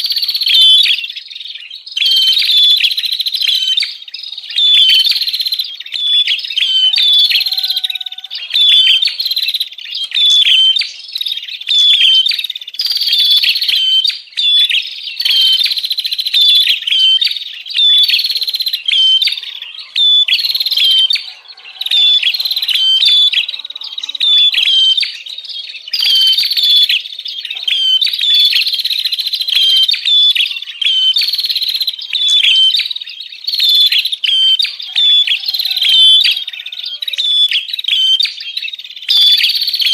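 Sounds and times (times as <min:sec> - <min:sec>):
songbirds chirping rapidly: 0:00.0 - 0:39.9.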